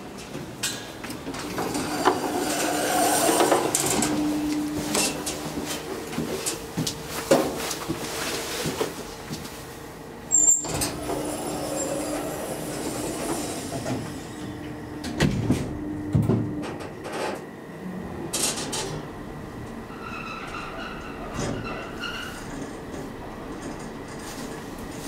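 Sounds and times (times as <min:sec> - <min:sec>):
elevator running hum: 0:00.0 - 0:25.0.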